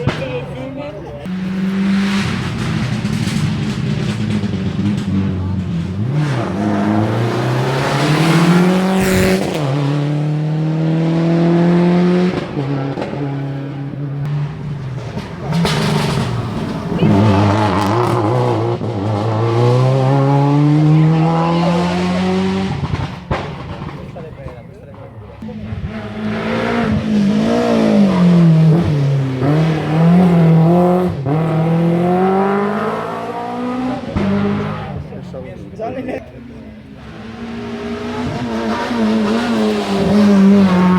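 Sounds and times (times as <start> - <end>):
rally car engine accelerating: 0.0 - 40.9.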